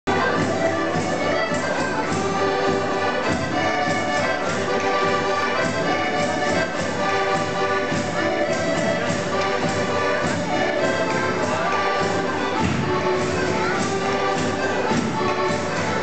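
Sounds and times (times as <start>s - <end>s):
lively folk music ensemble: 0.1s - 16.0s.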